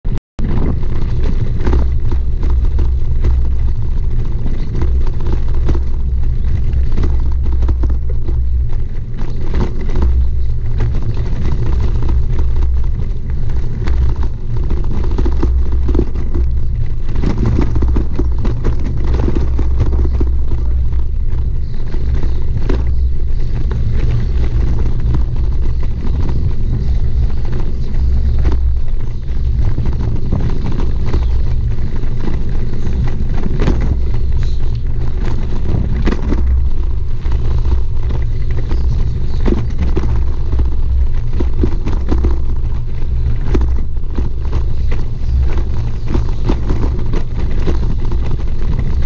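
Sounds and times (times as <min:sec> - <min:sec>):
wind buffeting microphone: 0:00.1 - 0:49.0
tyres crackling over gravel: 0:00.4 - 0:49.0.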